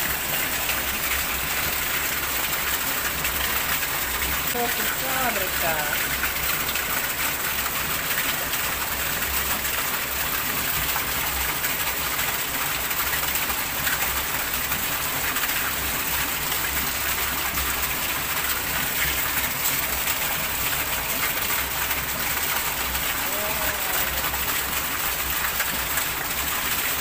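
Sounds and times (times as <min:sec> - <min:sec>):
heavy rain splashing on water: 0:00.0 - 0:27.0.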